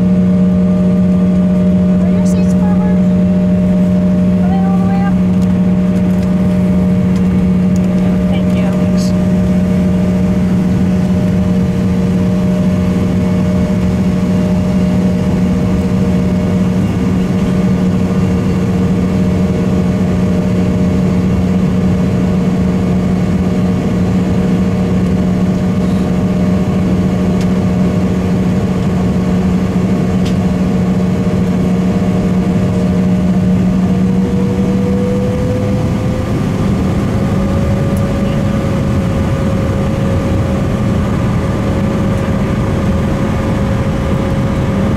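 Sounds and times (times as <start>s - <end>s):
jet engine hum: 0.0s - 44.9s.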